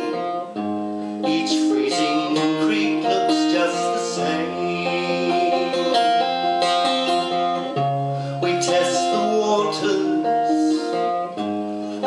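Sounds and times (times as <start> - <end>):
acoustic guitar playing chords: 0.0 - 12.0.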